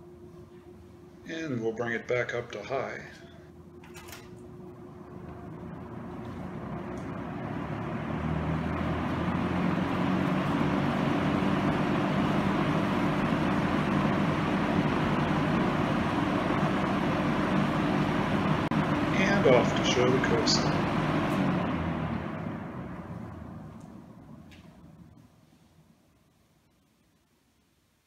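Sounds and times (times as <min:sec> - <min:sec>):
box fan motor hum and air rush: 0:00.0 - 0:26.3.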